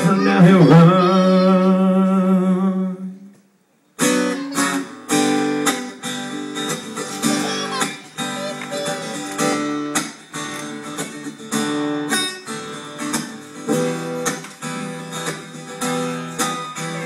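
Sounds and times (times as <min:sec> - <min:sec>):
acoustic guitar strumming: 0:00.0 - 0:03.0, 0:04.0 - 0:17.0.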